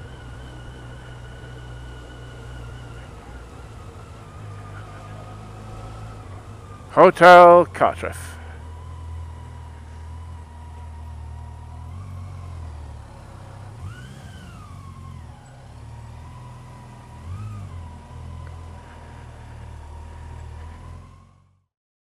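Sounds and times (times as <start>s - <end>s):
motorcycle engine revving: 0.0s - 21.6s.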